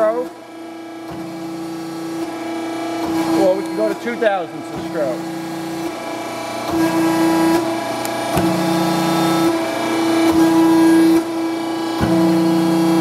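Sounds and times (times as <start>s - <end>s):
hydraulic power unit humming: 0.0s - 13.0s
machine ram stroking: 0.0s - 13.0s.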